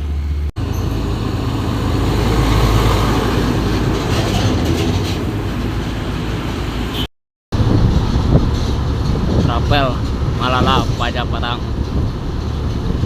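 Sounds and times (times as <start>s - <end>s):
heavy truck driving past: 0.0s - 13.0s.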